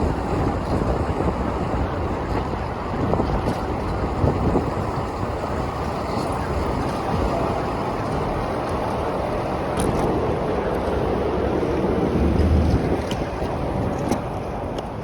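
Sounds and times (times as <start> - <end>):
city traffic: 0.0 - 15.0
wind buffeting microphone: 0.0 - 15.0.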